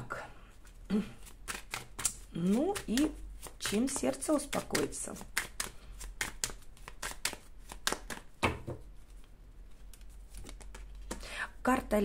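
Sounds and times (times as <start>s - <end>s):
cards being shuffled: 0.6s - 11.2s.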